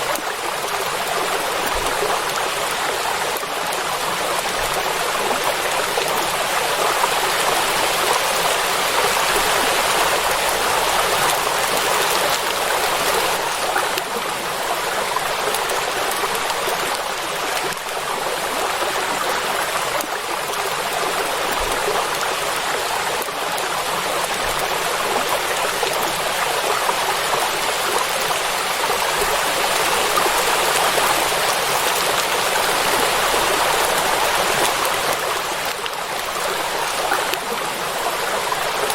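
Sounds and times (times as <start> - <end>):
rain falling on water: 0.0 - 38.9.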